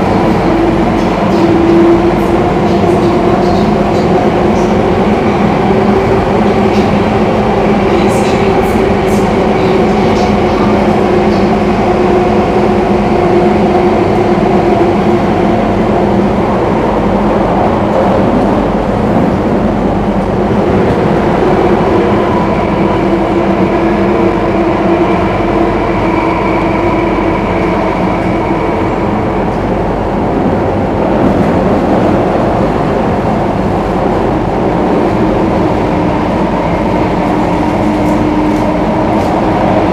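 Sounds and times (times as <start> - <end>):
train running noise: 0.0 - 39.9.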